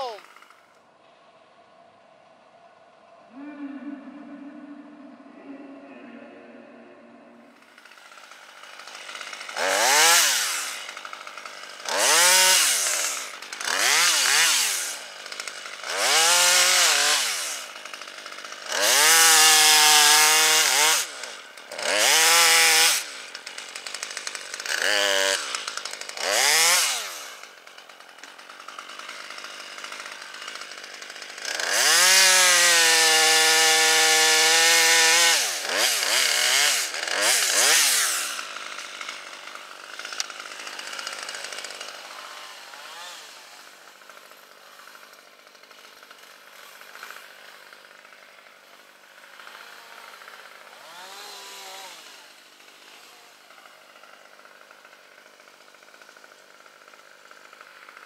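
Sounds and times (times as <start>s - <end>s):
chainsaw revving: 0.0s - 0.8s, 3.4s - 58.0s.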